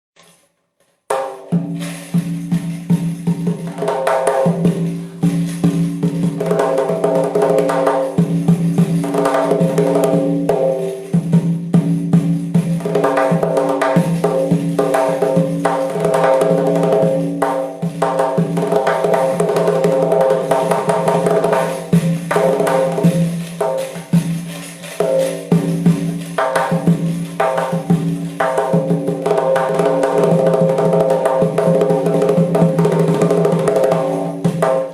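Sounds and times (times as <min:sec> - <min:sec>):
frame drum with jingles: 0:01.1 - 0:34.9.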